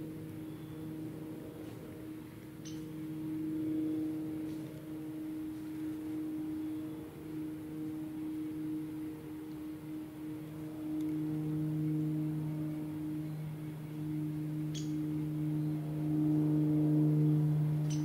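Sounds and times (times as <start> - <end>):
ambient drone music: 0.0 - 18.0.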